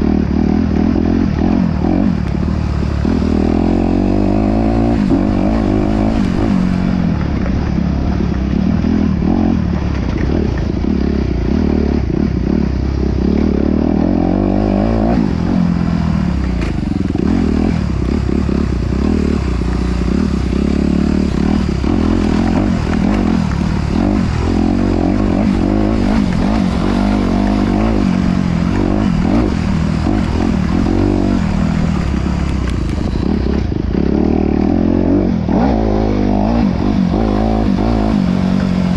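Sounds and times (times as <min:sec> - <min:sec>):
off-road engine revving: 0:00.0 - 0:38.9.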